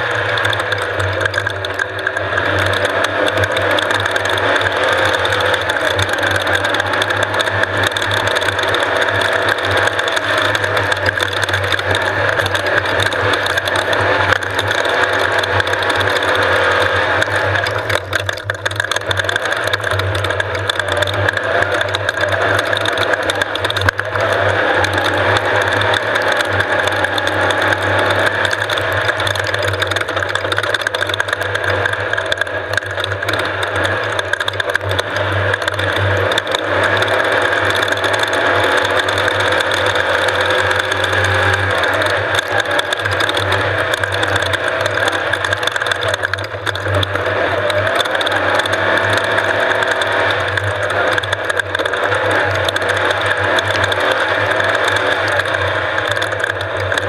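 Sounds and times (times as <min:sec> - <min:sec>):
mechanical clatter: 0:00.0 - 0:57.0
vehicle engine running: 0:00.0 - 0:57.0.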